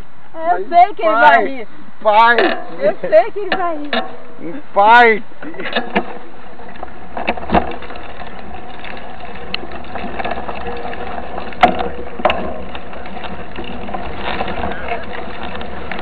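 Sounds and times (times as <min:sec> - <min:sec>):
bike knocking and rattling: 0:02.1 - 0:16.0
bike rolling on dirt track: 0:02.1 - 0:16.0.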